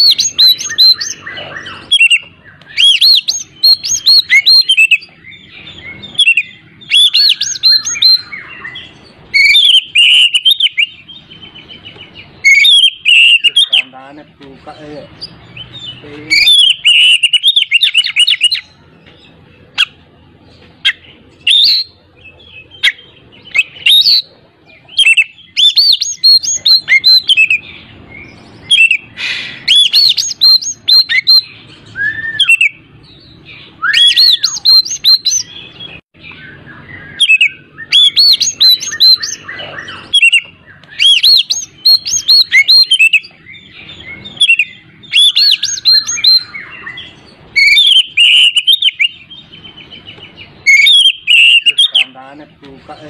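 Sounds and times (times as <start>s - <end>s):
lower slurred whistles: 0.0s - 11.6s, 12.4s - 13.9s, 20.8s - 49.3s, 50.6s - 52.2s
magpie-robin singing whistles: 0.0s - 13.9s, 15.2s - 20.0s, 20.8s - 52.2s.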